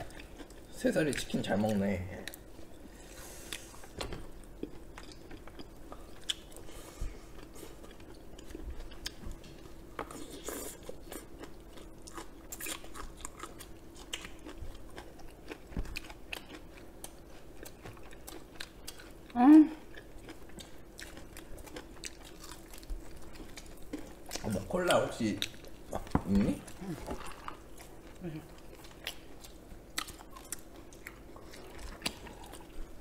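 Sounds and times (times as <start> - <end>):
chewing crispy food: 0.0 - 33.0
faint steady hum: 0.0 - 33.0.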